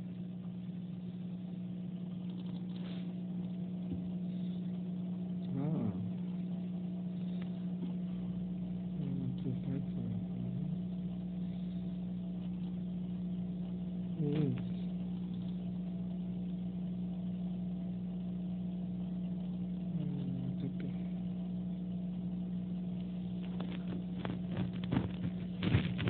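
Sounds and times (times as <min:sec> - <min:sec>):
machine humming with pitched tone: 0:00.0 - 0:26.0.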